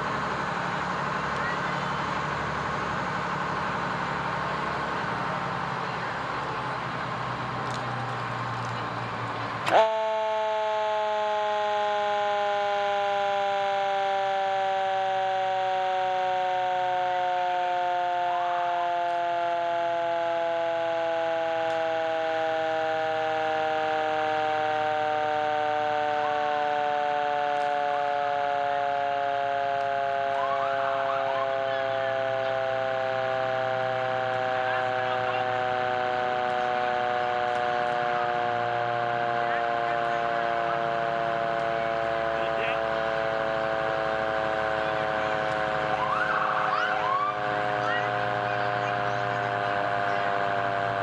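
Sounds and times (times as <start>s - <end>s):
fire truck siren wailing: 0.0s - 51.0s
truck engine running: 0.0s - 51.0s.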